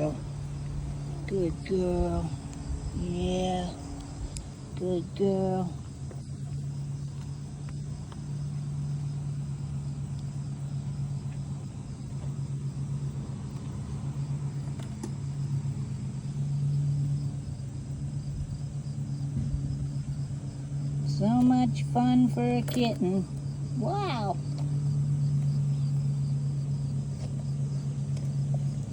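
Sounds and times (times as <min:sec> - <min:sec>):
crickets chirping faintly: 0:00.0 - 0:28.9.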